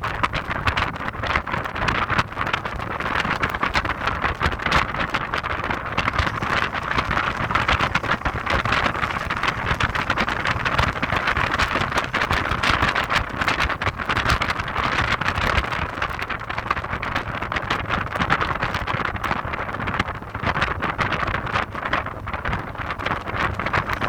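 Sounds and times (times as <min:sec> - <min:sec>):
car running noise: 0:00.0 - 0:24.0
wind buffeting microphone: 0:00.0 - 0:24.0.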